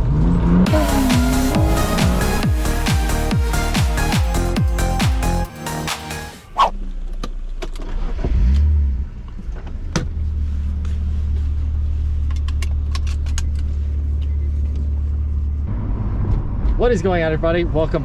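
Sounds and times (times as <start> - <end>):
car engine starting and idling: 0.0 - 18.0.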